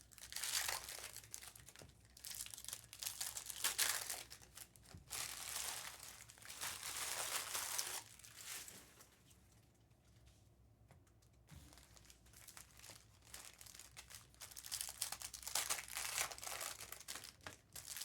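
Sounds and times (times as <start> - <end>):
foil wrappers tearing and crinkling: 0.2 - 8.8, 11.7 - 18.0.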